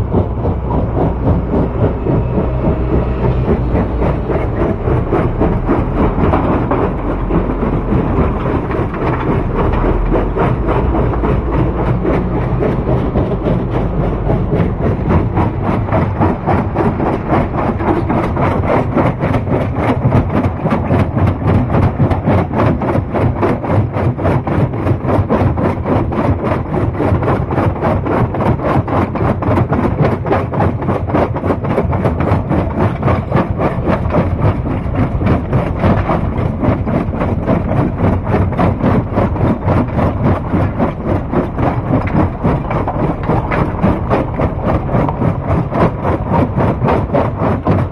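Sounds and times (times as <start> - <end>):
rock-crushing machinery pulsing: 0.0 - 47.9.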